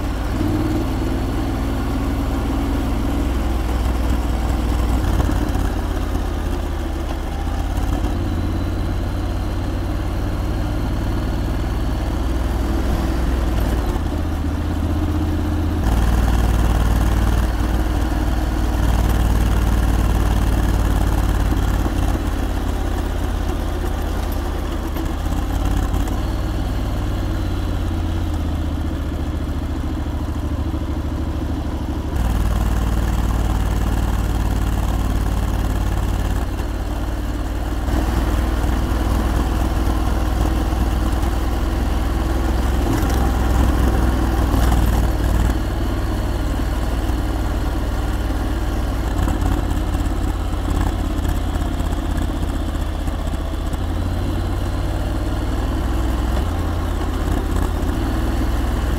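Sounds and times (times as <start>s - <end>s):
motorcycle engine running: 0.0s - 58.9s
road and wind noise: 0.0s - 58.9s.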